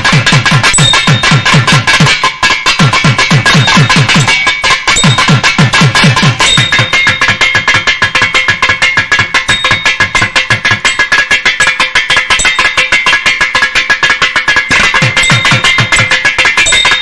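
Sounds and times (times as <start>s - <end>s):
fast drum strokes: 0.0s - 17.0s.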